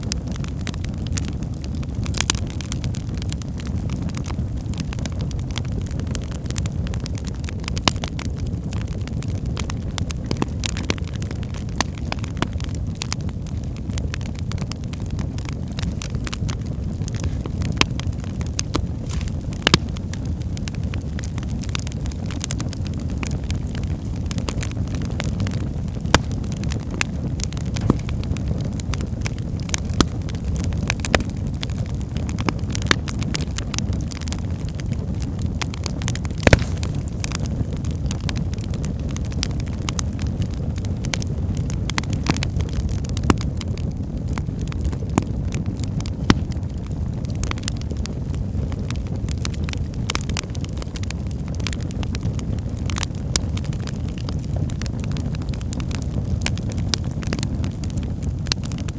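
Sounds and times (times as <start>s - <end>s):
burning logs crackling and popping: 0.0s - 58.9s
low rumble of flames: 0.0s - 58.9s.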